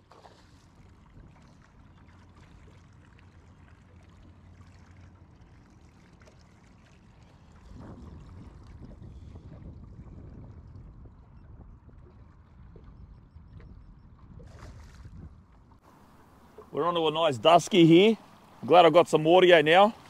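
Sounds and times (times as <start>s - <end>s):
low steady rumble: 0.0s - 20.0s
water sloshing around boat: 0.0s - 20.0s.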